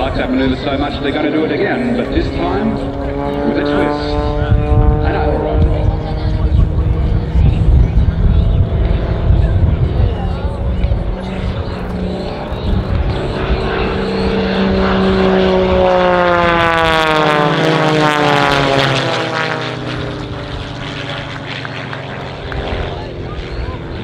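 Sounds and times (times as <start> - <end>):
biplane engines droning overhead: 0.0 - 24.0.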